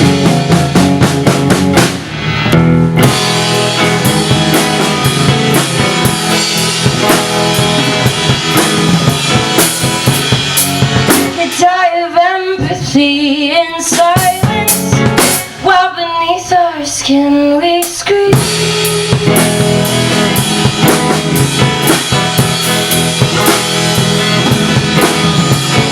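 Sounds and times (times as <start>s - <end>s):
drum kit: 0.0s - 15.9s, 17.7s - 25.9s
guitar: 0.0s - 25.9s.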